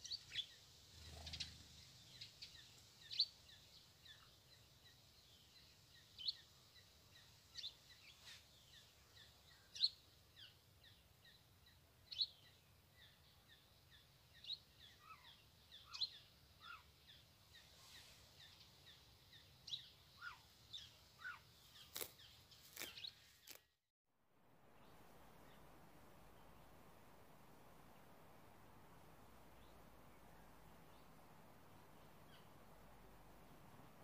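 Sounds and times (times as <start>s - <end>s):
small birds chirping: 0.0s - 23.8s, 24.6s - 34.0s.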